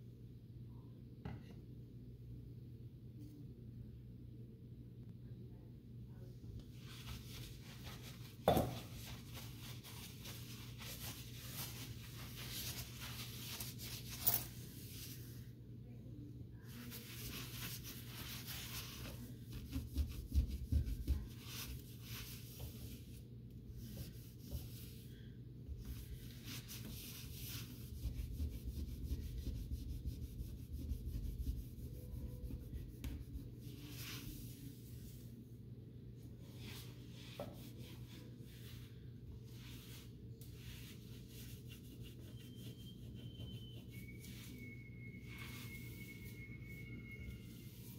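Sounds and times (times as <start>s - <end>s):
cloth wiping glass cooktop: 6.7s - 15.5s, 16.7s - 35.3s, 36.4s - 47.9s.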